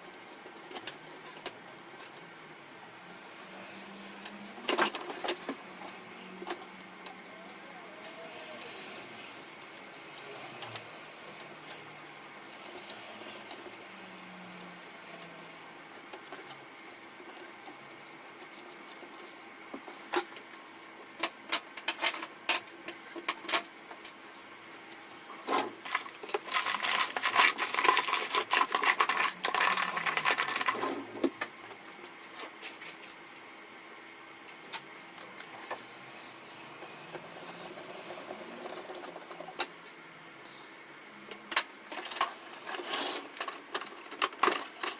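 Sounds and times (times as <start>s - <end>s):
printer motor and gears whirring: 0.0s - 44.9s.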